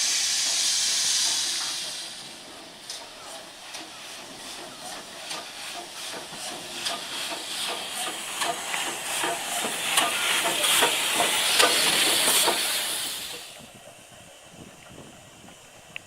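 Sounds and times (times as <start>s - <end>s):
steam hiss: 0.0s - 16.0s
steam locomotive chugging: 0.0s - 16.0s.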